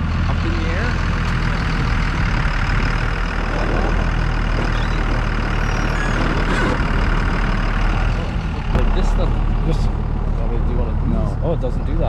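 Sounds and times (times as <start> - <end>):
truck engine running: 0.0 - 12.0
wind and road noise: 0.0 - 12.0.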